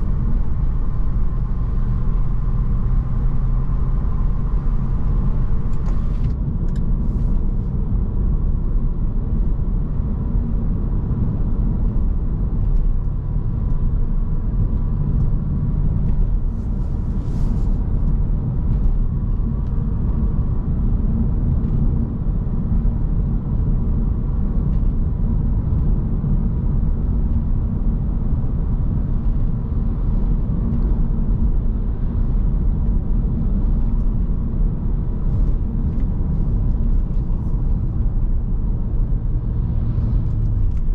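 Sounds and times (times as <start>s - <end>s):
car engine rumble in cabin: 0.0s - 40.9s.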